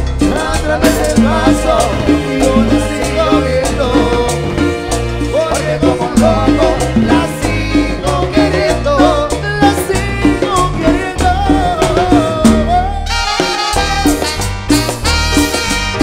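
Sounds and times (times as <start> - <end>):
latin dance band playing: 0.0 - 16.0.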